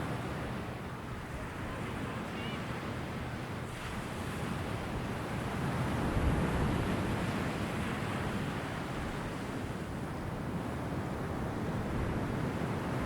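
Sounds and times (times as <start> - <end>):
ocean waves rushing: 0.0 - 13.0.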